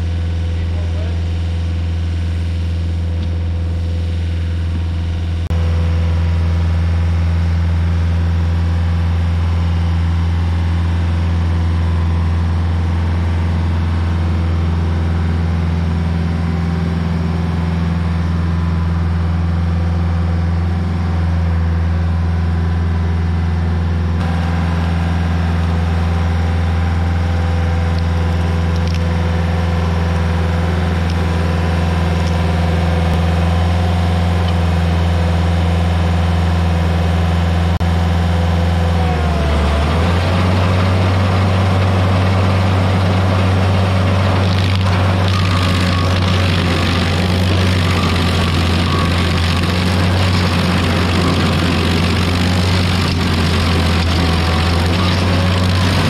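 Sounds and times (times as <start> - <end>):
stump grinder engine humming: 0.0 - 56.0.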